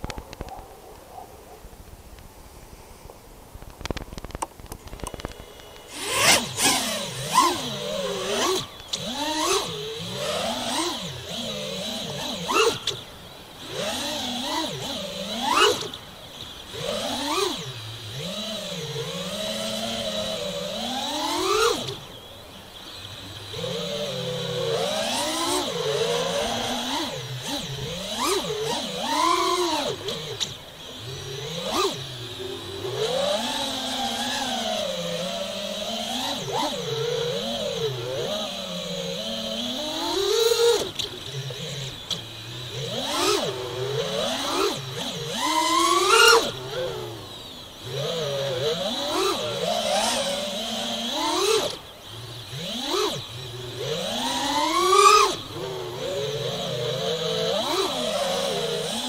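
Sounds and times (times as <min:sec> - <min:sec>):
quadcopter motors whining: 0:00.0 - 0:59.0.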